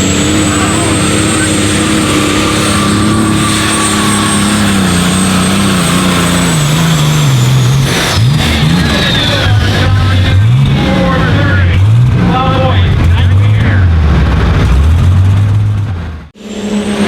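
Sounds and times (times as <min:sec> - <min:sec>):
high whine: 0:00.0 - 0:17.0
tractor engine at full power: 0:00.0 - 0:17.0.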